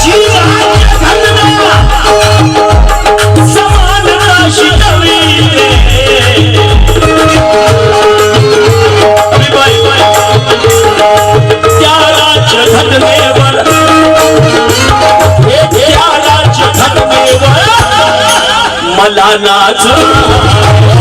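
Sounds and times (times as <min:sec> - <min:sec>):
hand drums beating: 0:00.0 - 0:18.6, 0:20.0 - 0:21.0
sustained melody line: 0:00.0 - 0:19.0.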